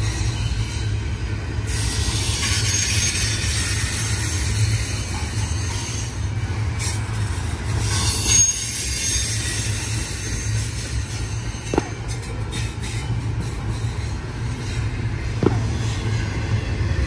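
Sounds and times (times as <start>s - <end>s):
freight train rumbling past: 0.0s - 17.0s
wheels squealing on rails: 0.0s - 17.0s.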